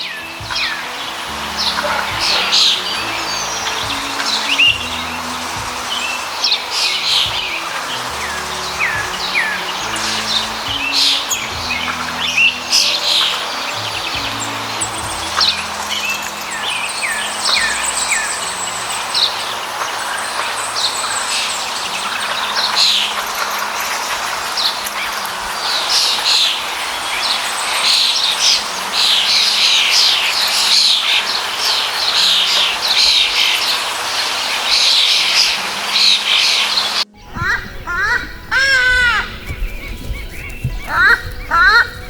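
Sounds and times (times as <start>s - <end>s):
background hiss: 0.0s - 42.0s
birds chirping: 0.0s - 42.0s.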